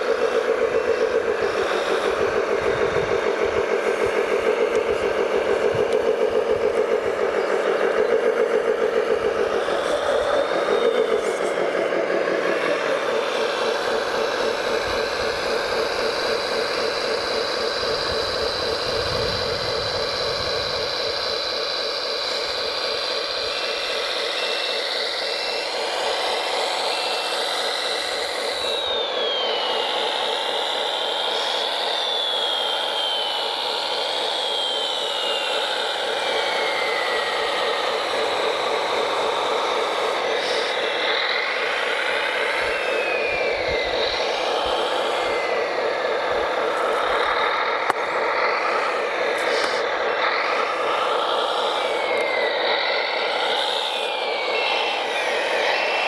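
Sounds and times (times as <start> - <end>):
buzzing hum of hydraulic pump: 0.0 - 56.0
motor whine sliding in pitch: 0.0 - 56.0.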